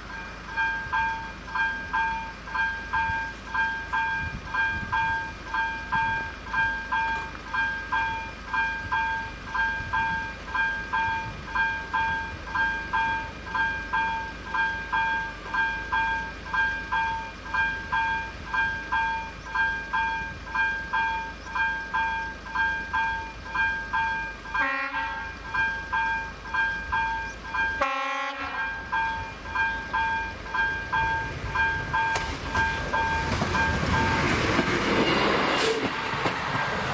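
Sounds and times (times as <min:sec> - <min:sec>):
electronic crossing warning bell: 0:00.0 - 0:34.4.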